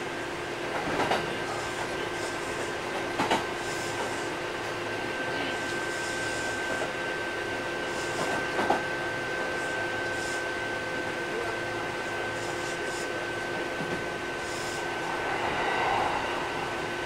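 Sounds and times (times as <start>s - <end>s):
train car hum with high tone: 0.0s - 17.0s.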